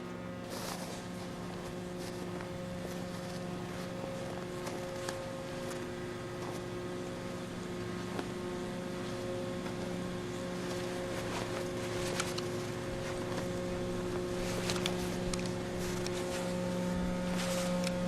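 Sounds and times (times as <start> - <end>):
wood chipper engine droning: 0.0 - 18.0.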